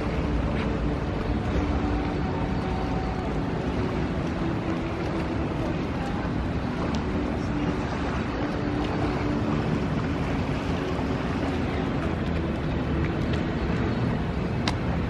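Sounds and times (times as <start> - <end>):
city traffic: 0.0 - 15.0
floodwater rushing: 0.0 - 15.0.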